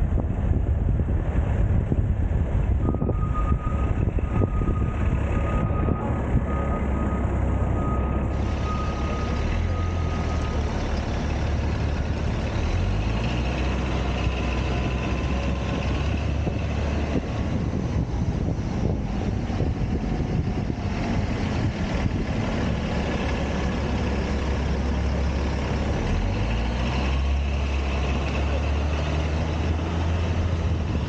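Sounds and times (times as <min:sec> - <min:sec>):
city traffic: 0:00.0 - 0:31.0
wind rumble on microphone: 0:00.0 - 0:31.0.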